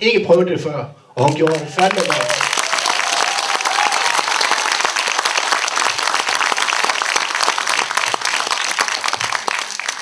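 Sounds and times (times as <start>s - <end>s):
audience clapping: 1.2s - 10.0s.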